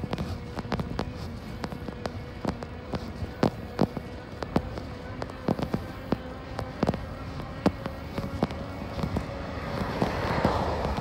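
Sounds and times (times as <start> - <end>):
bike rattling on concrete: 0.0 - 11.0
faint steady whine: 0.0 - 11.0.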